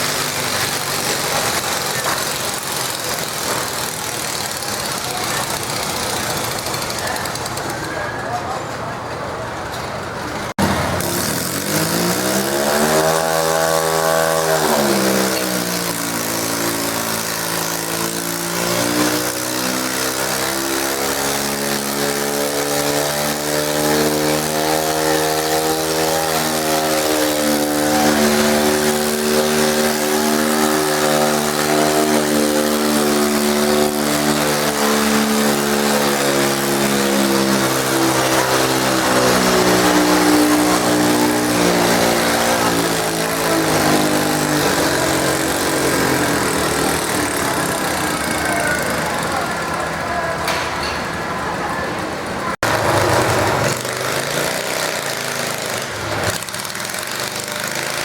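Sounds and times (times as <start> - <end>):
garden tractor engine revving: 0.0 - 8.0, 10.4 - 50.0, 52.5 - 58.0.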